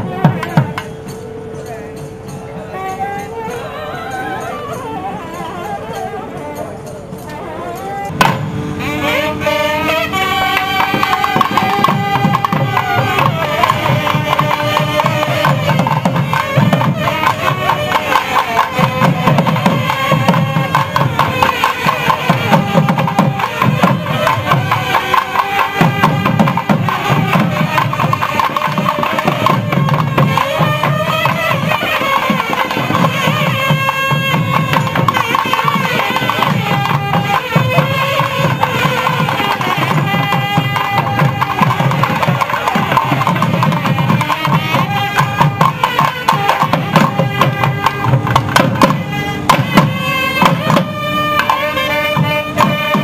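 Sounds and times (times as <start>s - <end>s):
double-reed pipes playing melody: 0.0s - 53.0s
drum beat: 8.1s - 8.6s, 10.3s - 53.0s.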